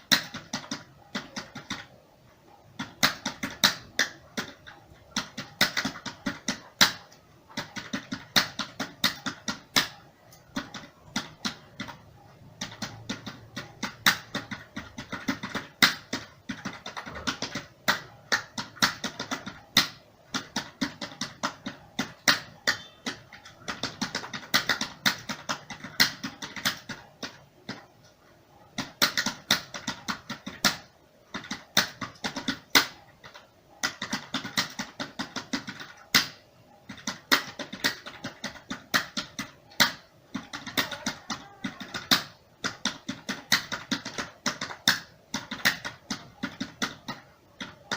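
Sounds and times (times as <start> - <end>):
computer keyboard typing: 0.0 - 47.9.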